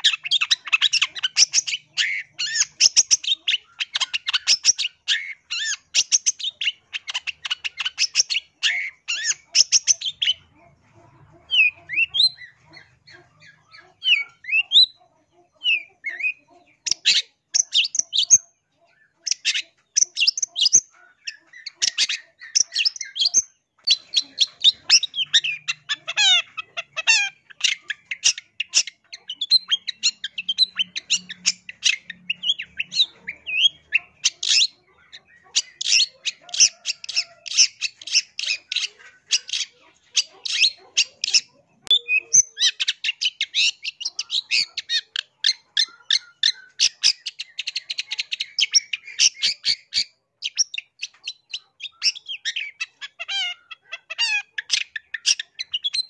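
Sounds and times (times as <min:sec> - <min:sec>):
bird chattering notes: 0:00.0 - 0:56.0.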